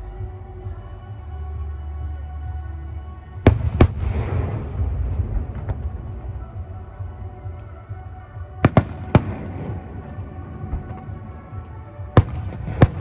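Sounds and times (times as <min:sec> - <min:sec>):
continuous low rumble: 0:00.0 - 0:13.0.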